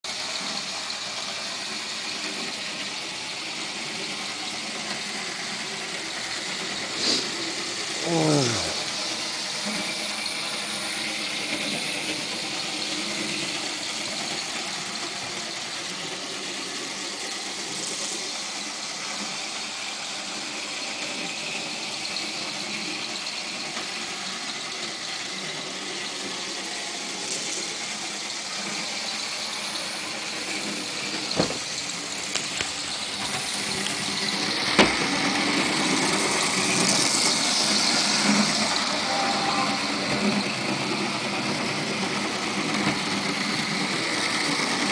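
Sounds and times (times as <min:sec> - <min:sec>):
model train motor whirring: 0:00.1 - 0:44.9.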